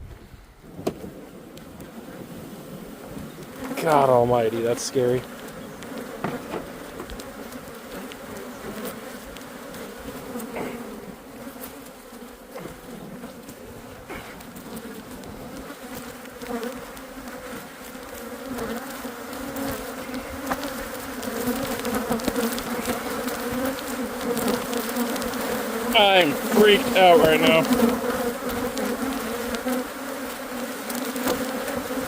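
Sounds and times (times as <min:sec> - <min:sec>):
honey bees buzzing: 0:01.1 - 0:32.0.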